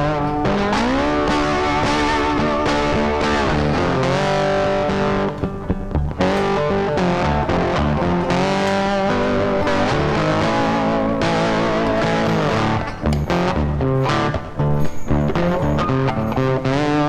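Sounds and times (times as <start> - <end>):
electric guitar music: 0.0 - 17.0.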